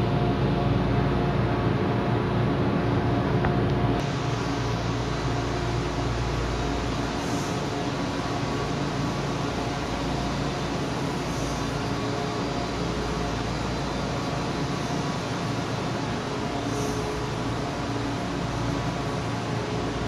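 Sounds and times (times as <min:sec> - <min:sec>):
steady rush beside train: 0:00.0 - 0:20.0
train air conditioning hum: 0:00.0 - 0:20.0.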